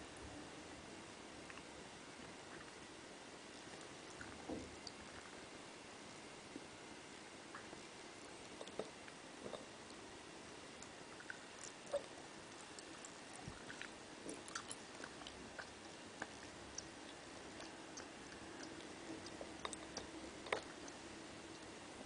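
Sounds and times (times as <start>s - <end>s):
soft chewing with wet clicks: 1.4s - 5.5s, 7.4s - 22.0s.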